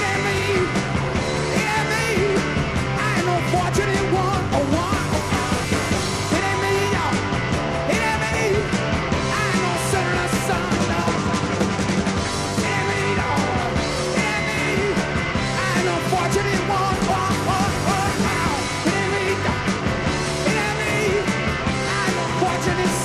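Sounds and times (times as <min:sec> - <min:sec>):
rock music with singing: 0:00.0 - 0:23.0.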